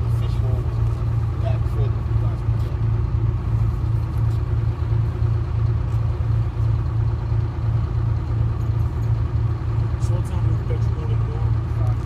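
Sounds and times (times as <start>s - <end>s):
diesel bus engine droning: 0.0s - 12.0s.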